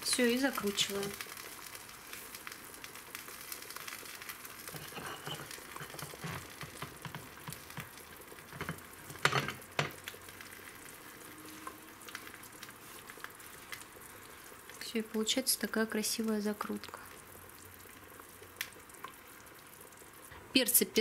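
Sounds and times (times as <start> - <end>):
sauce sizzling in a pot: 0.0 - 21.0.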